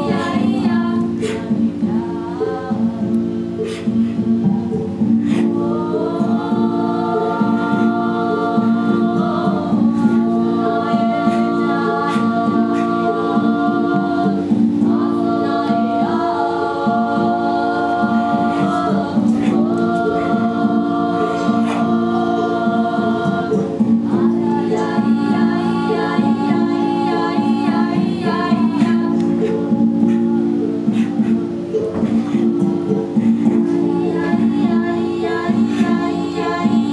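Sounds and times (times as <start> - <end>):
low instrumental drone: 0.0 - 36.9
voices singing together: 0.0 - 36.9.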